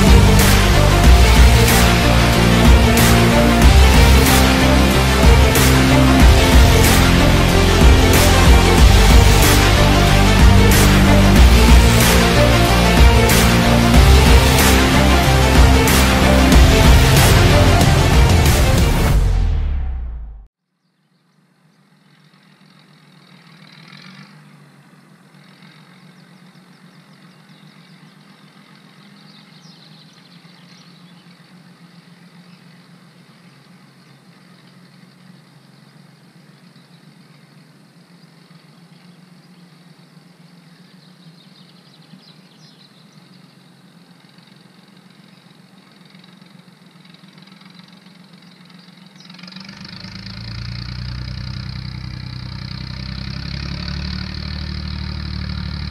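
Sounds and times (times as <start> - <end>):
tractor engine running: 0.0 - 20.5, 21.7 - 55.9.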